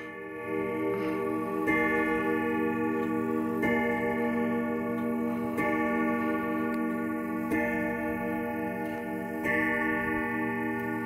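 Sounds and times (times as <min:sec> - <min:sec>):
grandfather clock striking: 0:00.0 - 0:11.0.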